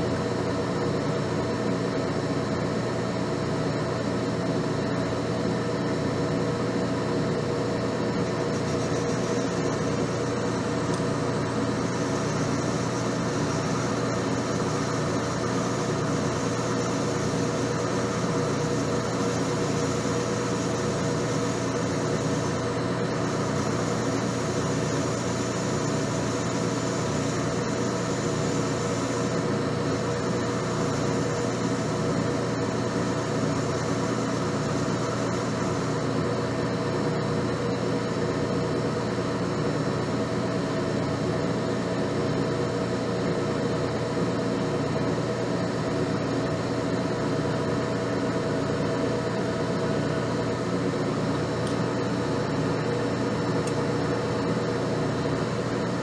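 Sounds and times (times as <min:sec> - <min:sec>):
metal lathe motor hum: 0:00.0 - 0:56.0.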